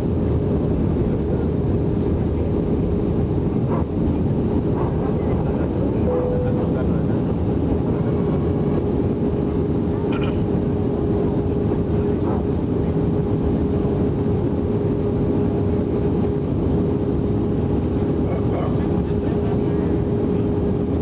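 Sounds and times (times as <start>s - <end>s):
aircraft cabin engine and airflow noise: 0.0s - 21.0s.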